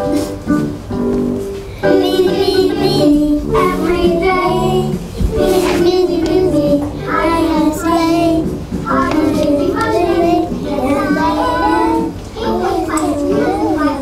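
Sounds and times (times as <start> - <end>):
girls singing together: 1.8 - 14.0.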